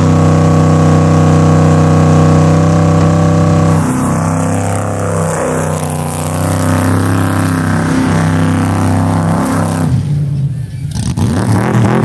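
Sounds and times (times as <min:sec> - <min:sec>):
race vehicle engine running: 0:00.0 - 0:12.0.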